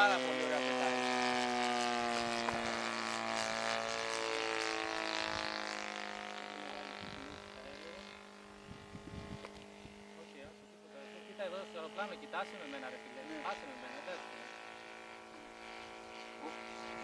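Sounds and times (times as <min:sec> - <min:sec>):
model plane engine droning: 0:00.0 - 0:17.0.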